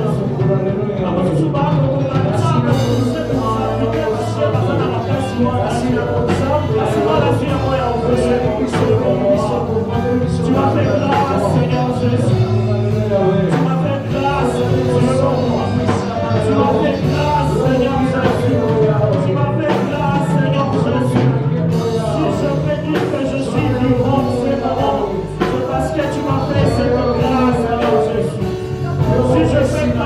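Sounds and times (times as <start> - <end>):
drums hitting: 0.0 - 30.0
live worship band music: 0.0 - 30.0
people singing: 0.0 - 30.0.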